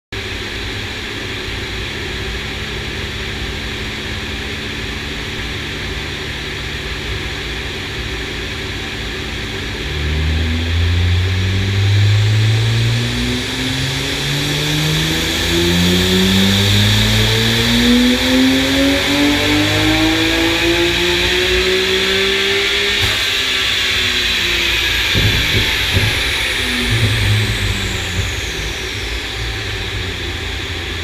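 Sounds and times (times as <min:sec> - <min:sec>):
car engine revving on dyno: 0:00.2 - 0:31.0.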